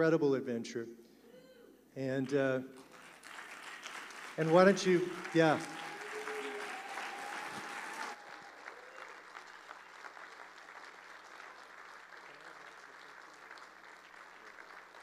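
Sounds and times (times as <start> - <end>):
crowd applauding: 2.3 - 15.0.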